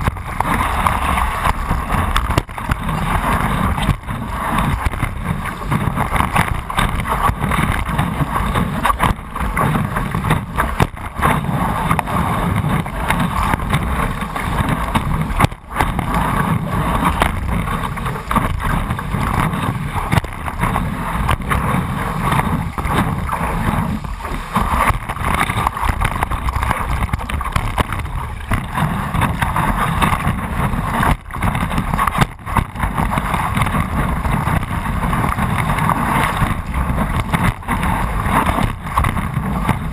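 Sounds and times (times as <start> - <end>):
breaking wave water: 0.0 - 39.9.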